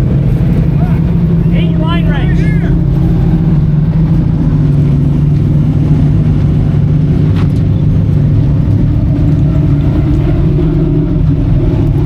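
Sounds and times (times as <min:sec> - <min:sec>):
racing engines rumbling: 0:00.0 - 0:12.0.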